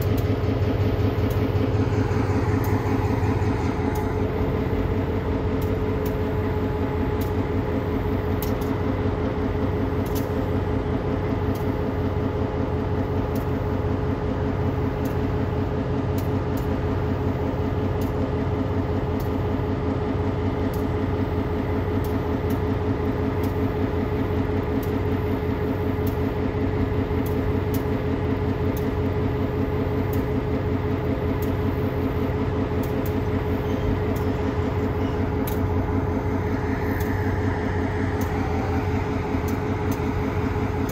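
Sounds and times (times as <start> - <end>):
locomotive engine idling: 0.0 - 40.9.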